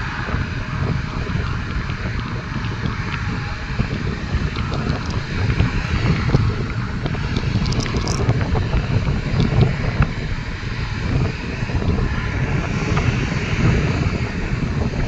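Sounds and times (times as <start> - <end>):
airliner engines rumbling: 0.0 - 15.0
wind buffeting microphone: 0.0 - 15.0.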